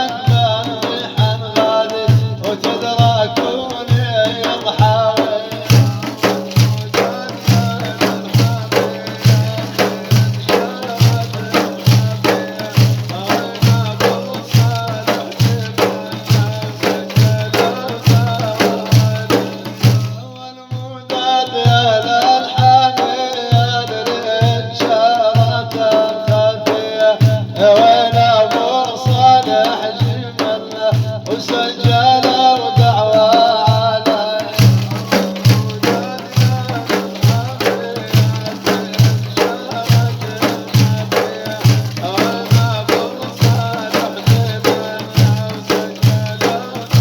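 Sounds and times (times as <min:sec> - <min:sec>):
low drum beat: 0:00.0 - 0:47.0.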